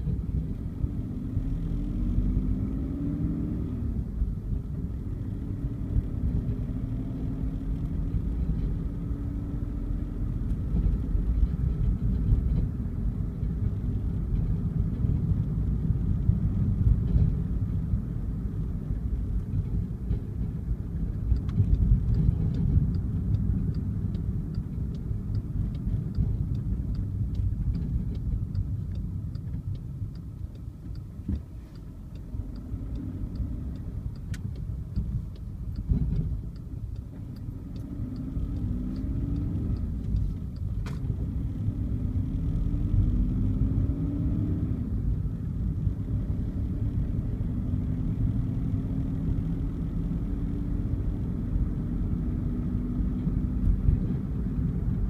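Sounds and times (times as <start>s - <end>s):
engine and tyre rumble: 0.0s - 55.0s
turn signal ticking: 0.0s - 55.0s.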